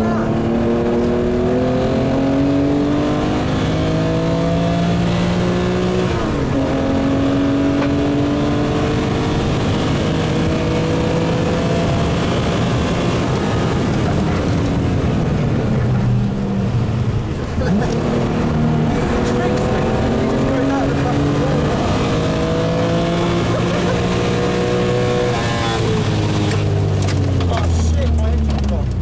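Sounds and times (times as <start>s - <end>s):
car engine accelerating hard: 0.0s - 29.0s.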